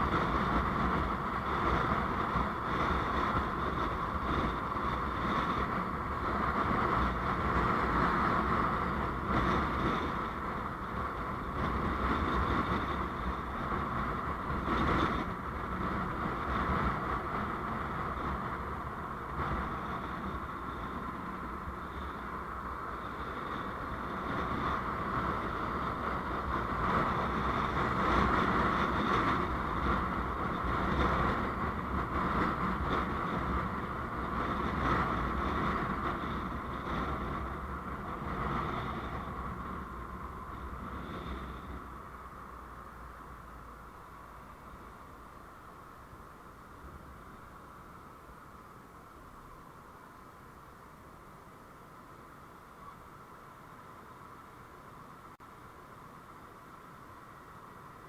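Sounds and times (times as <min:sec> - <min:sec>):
vehicle road noise rumble: 0:00.0 - 0:58.0.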